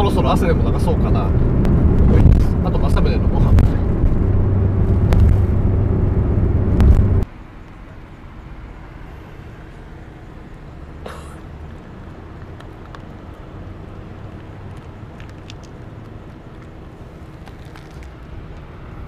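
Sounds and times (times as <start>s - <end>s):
quiet outdoor background: 0.0s - 19.0s
van engine and road drone: 0.0s - 19.0s.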